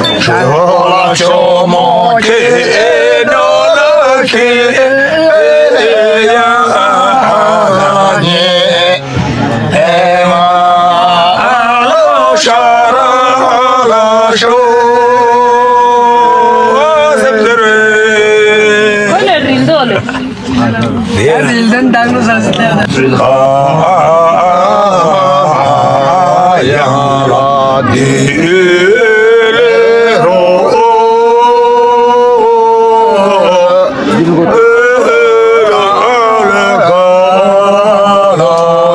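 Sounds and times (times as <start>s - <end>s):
men singing folk song: 0.0s - 20.0s, 21.2s - 38.9s.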